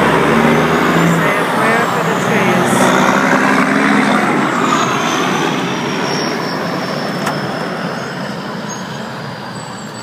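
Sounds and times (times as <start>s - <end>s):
truck driving past: 0.0s - 10.0s.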